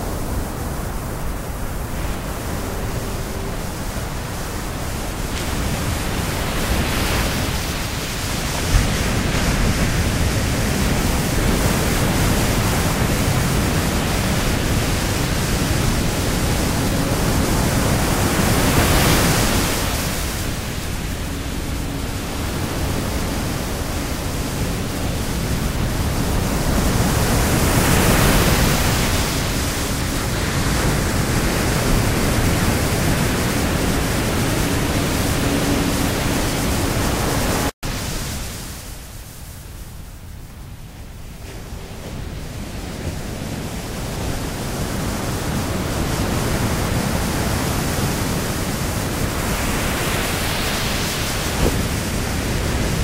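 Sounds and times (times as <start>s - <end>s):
continuous rushing noise: 0.0s - 53.0s.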